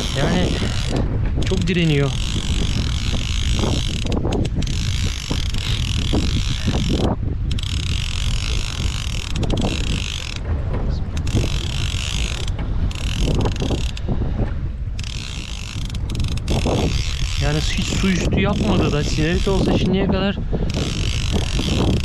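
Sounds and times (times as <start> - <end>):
choppy sea hissing: 0.0 - 22.0
wind buffeting microphone: 0.0 - 22.0.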